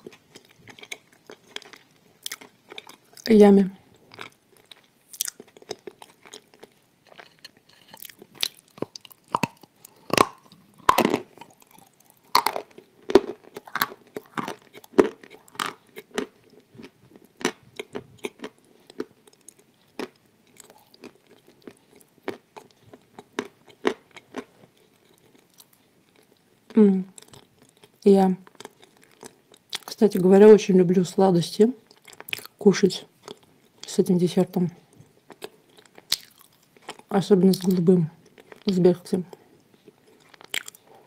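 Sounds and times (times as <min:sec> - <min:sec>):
crisp chewing crunches: 0:00.0 - 0:03.3, 0:03.9 - 0:30.3, 0:31.8 - 0:32.6, 0:33.2 - 0:34.0, 0:34.8 - 0:41.0.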